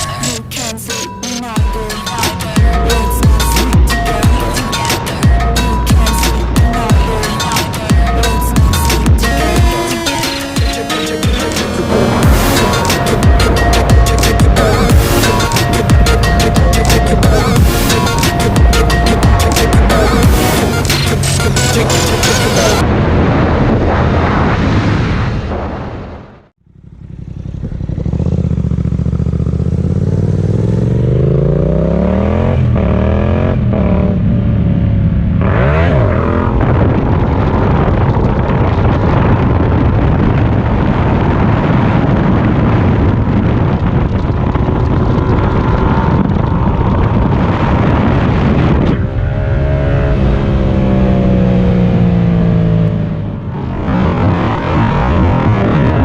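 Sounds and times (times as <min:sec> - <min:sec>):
motorcycle engine accelerating: 0:00.0 - 0:22.8, 0:26.6 - 0:56.0
wind rushing: 0:02.1 - 0:26.5, 0:34.9 - 0:56.0.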